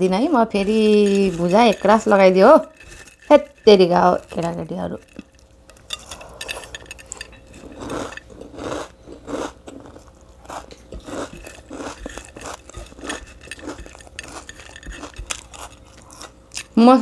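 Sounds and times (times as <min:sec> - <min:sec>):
chewing food: 0:00.4 - 0:16.8.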